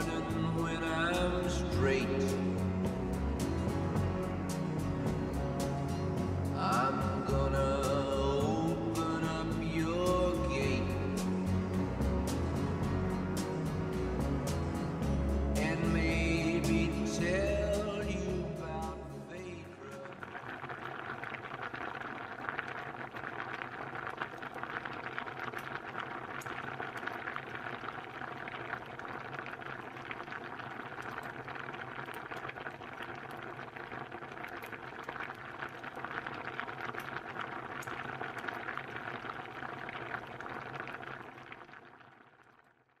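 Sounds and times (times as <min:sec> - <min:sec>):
soup bubbling in a pot: 0:00.0 - 0:15.6, 0:18.8 - 0:43.0.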